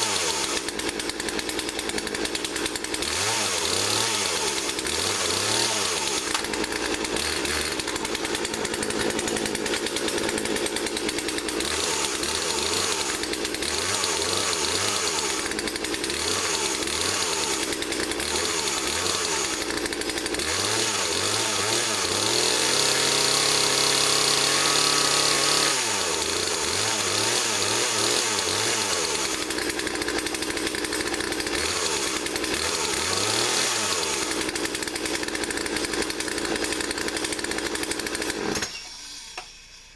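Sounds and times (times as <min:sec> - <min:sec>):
chainsaw revving: 0:00.0 - 0:39.5.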